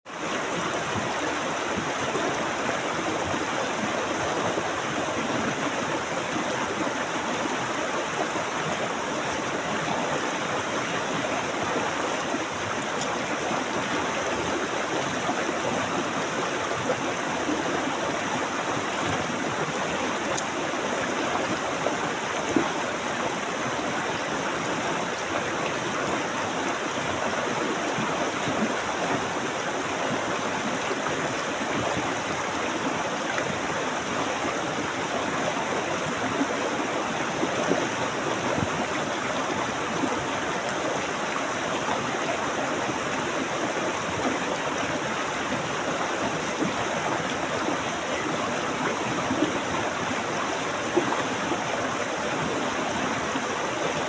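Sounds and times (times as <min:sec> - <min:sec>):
stream flowing over rocks: 0:00.1 - 0:54.0.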